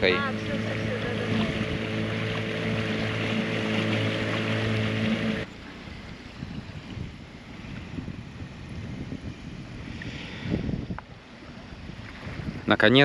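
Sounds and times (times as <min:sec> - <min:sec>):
outboard motor running: 0:00.0 - 0:12.8
wind on microphone: 0:00.0 - 0:13.0.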